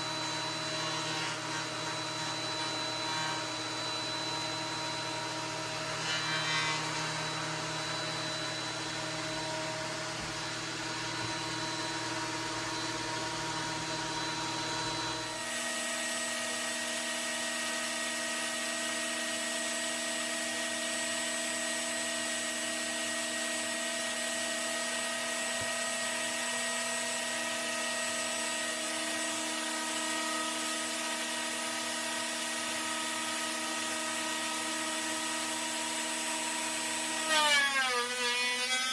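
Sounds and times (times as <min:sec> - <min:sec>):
thickness planer whining: 0:00.0 - 0:38.9.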